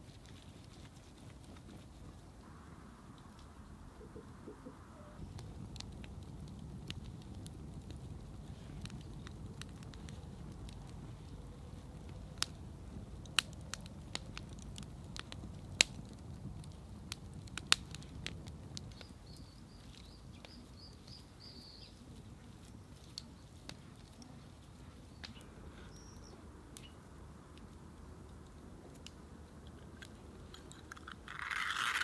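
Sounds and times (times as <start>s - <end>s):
wood fire crackling and popping: 0.0s - 4.5s, 5.2s - 32.0s
low outdoor rumble: 0.0s - 32.0s.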